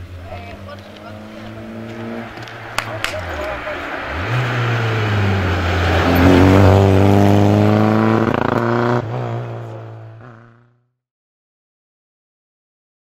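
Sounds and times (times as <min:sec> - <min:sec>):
car engine revving high: 0:00.0 - 0:10.6.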